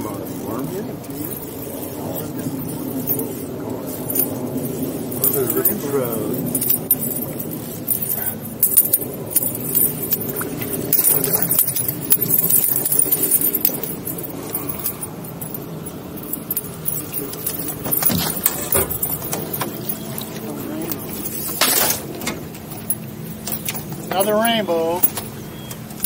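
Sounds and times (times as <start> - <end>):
net and gear clinking on boat: 0.0 - 26.0.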